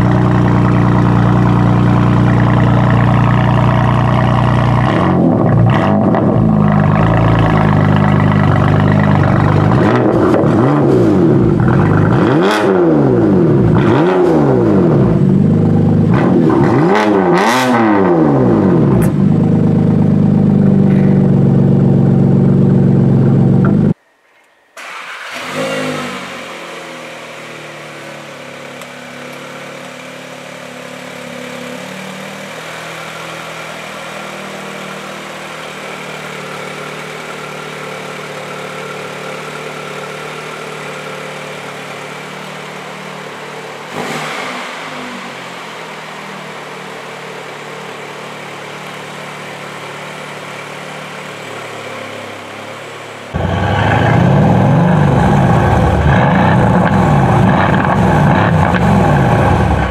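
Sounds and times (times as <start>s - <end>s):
loud vee-eight engine: 0.0s - 24.0s, 25.4s - 59.9s
car engine idling: 0.0s - 24.1s, 24.8s - 59.9s.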